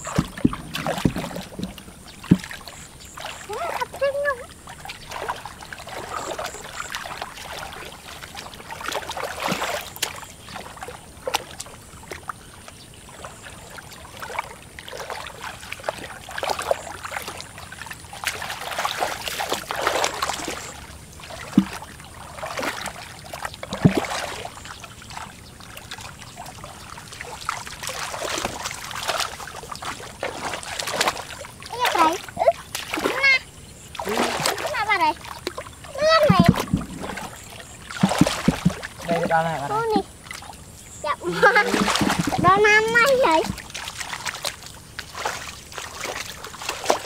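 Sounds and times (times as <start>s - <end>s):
muddy water sloshing: 0.0s - 47.0s
sharp splashes: 0.0s - 47.0s.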